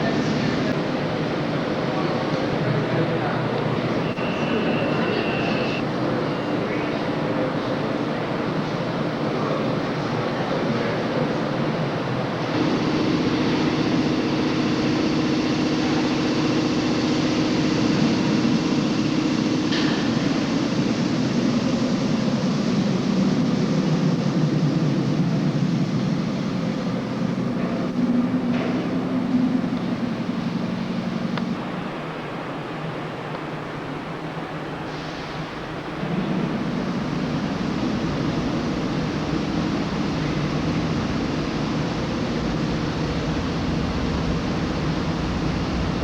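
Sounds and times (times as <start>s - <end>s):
subway train rolling on rails: 0.0s - 46.0s.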